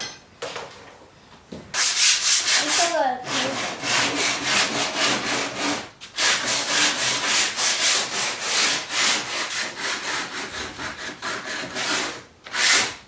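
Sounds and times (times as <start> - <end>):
wood being sanded: 1.8 - 12.9.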